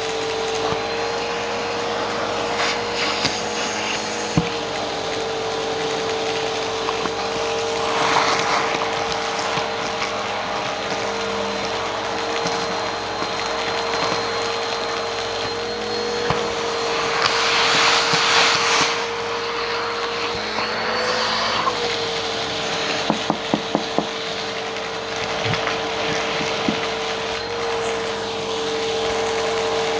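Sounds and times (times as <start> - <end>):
vacuum cleaner motor whine: 0.0 - 29.9
vacuum sucking crunchy debris: 0.0 - 29.9.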